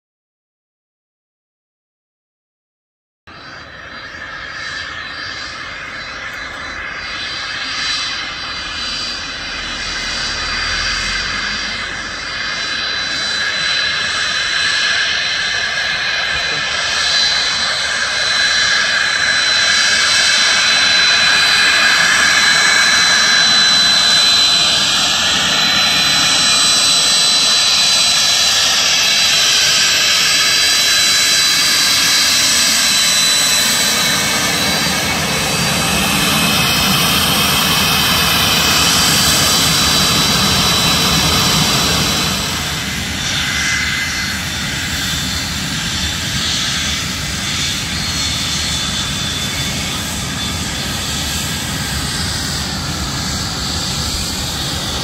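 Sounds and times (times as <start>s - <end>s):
jet engines whining: 3.3s - 55.0s.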